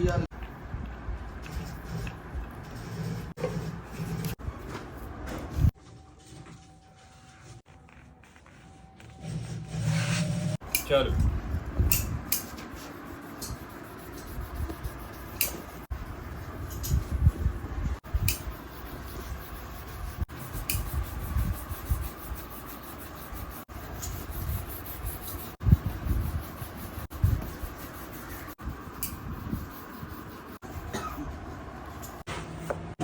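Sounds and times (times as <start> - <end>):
rubbing and handling sounds: 0.4 - 11.0, 12.4 - 32.3.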